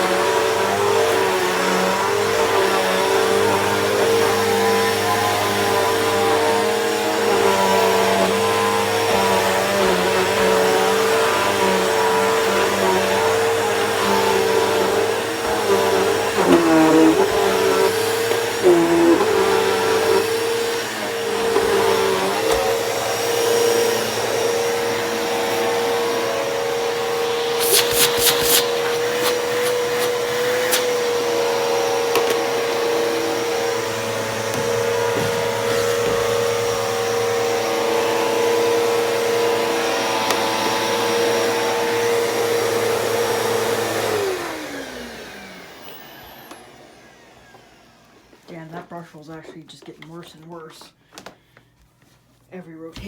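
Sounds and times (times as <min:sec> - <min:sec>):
vacuum cleaner motor whine: 0:00.0 - 0:49.0.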